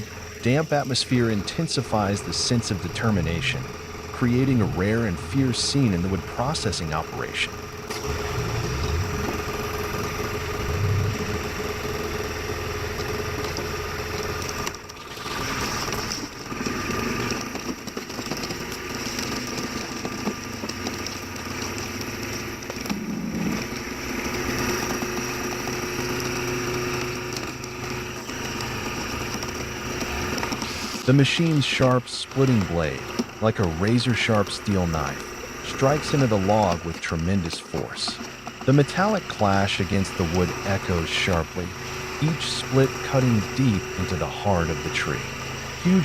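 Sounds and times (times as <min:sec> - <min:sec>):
log splitter engine running: 0:00.0 - 0:46.0.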